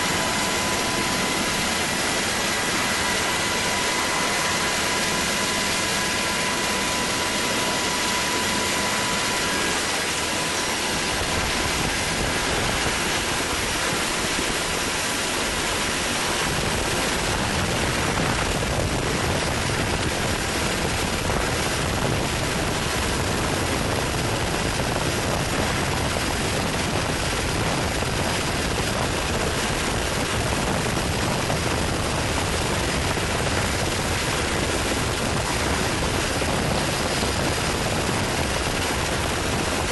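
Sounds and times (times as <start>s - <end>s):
faint high whine: 0.0s - 39.9s
helicopter turbine and rotor: 0.0s - 39.9s.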